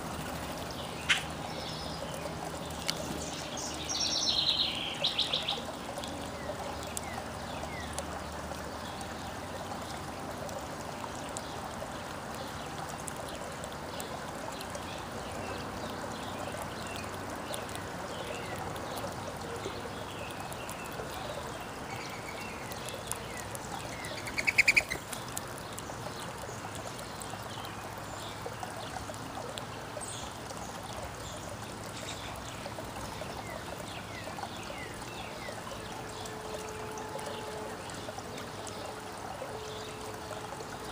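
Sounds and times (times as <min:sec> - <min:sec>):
trickle of running water: 0:00.0 - 0:40.9
songbirds chirping: 0:00.1 - 0:40.9.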